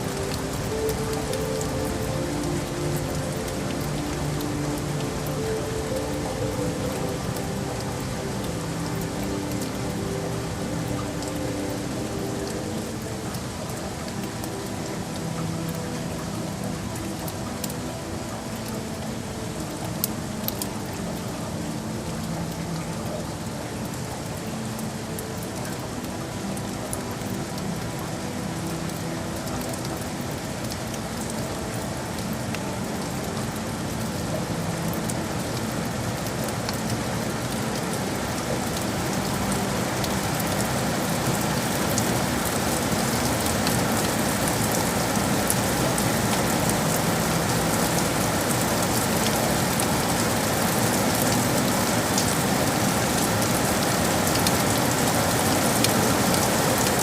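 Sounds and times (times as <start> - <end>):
rain on hard surfaces: 0.0 - 57.0.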